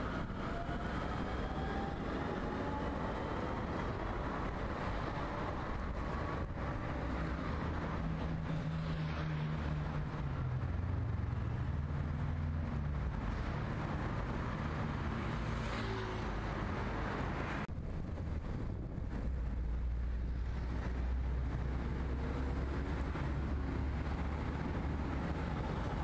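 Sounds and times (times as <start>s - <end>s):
traffic rumble of engines and tyres: 0.0s - 26.0s.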